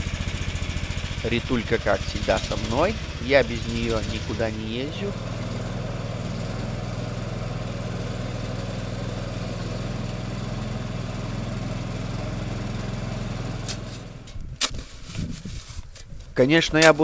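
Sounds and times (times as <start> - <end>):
small engine running: 0.0 - 15.7.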